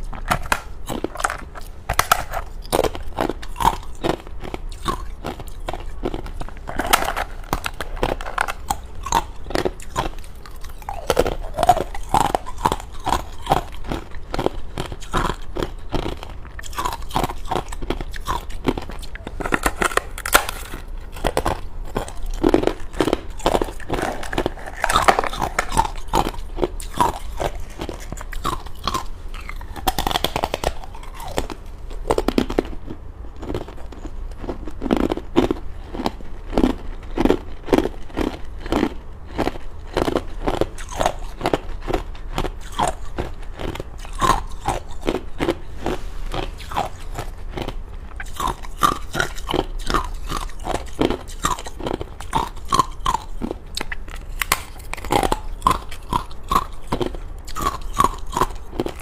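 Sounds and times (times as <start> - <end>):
crunching and chewing ice: 0.0 - 59.0.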